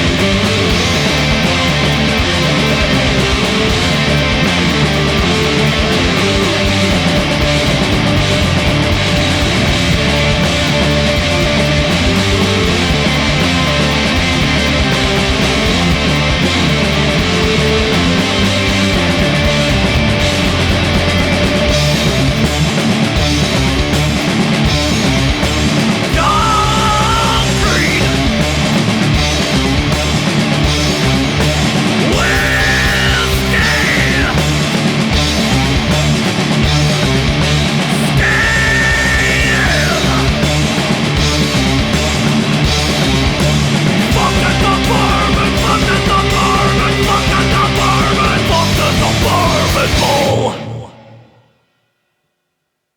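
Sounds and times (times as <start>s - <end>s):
heavy distorted rock band: 0.0s - 51.5s
high bending guitar phrase: 0.0s - 51.5s.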